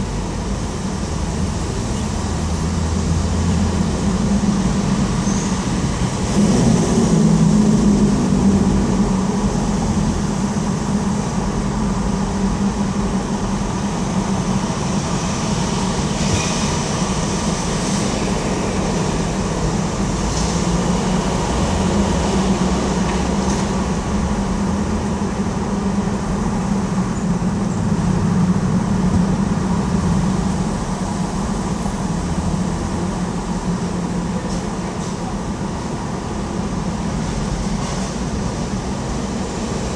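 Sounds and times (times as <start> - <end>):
traffic rumble on a bridge: 0.0 - 39.9.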